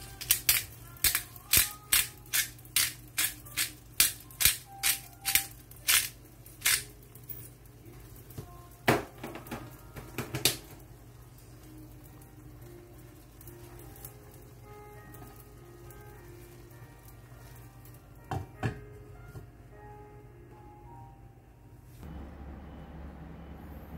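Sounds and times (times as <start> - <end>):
faint background music: 0.0 - 22.1.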